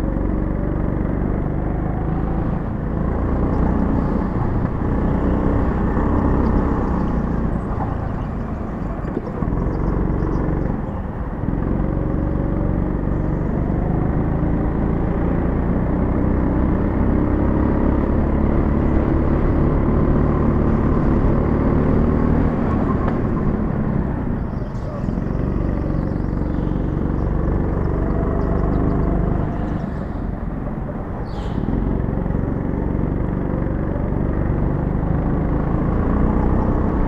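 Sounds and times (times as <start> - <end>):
go-kart engine revving: 0.0 - 30.4, 31.5 - 37.0.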